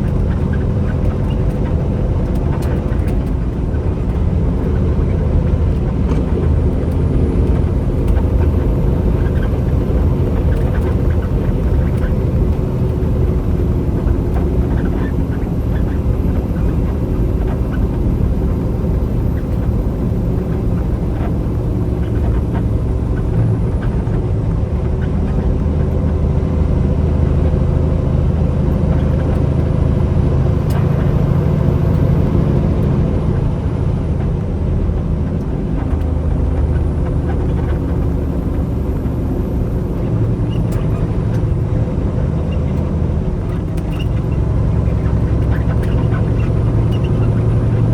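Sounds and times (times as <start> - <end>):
road noise: 0.0 - 47.9
truck engine drone: 0.0 - 47.9.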